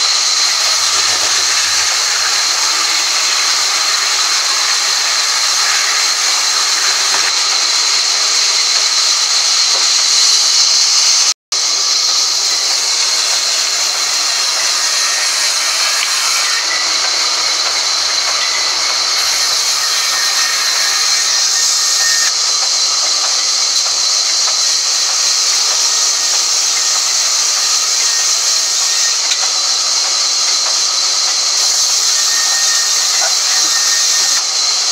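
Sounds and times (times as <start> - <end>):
band saw cutting log: 0.0 - 34.9.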